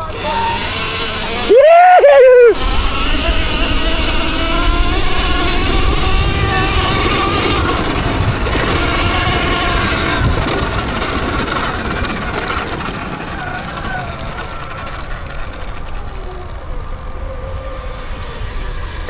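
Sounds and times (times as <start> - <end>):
electric motorbike motors whining: 0.0 - 19.0.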